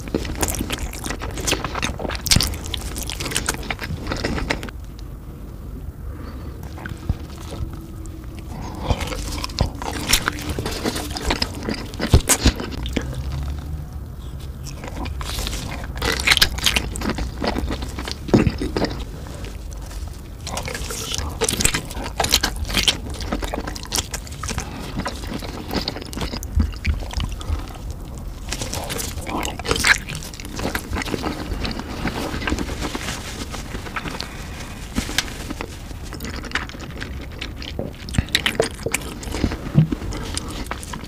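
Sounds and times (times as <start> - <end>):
biting through sausage casing: 0.0 - 4.8, 6.6 - 13.5, 14.2 - 41.0
wet chewing: 0.0 - 5.1, 6.1 - 41.0.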